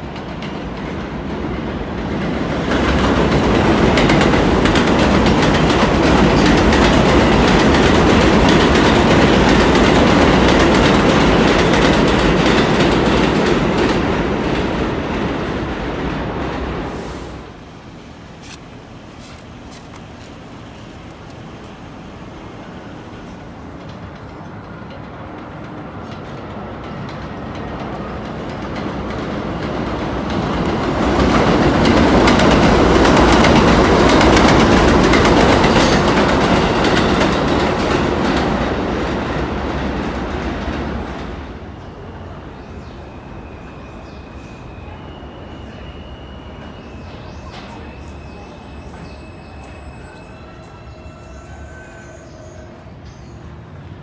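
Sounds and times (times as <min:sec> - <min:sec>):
subway train passing: 0:00.0 - 0:54.0.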